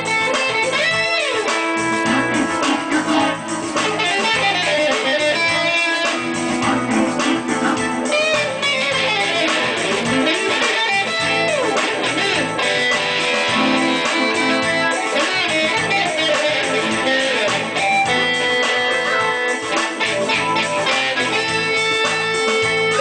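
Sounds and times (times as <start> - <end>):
electric guitar lead: 0.0 - 23.0.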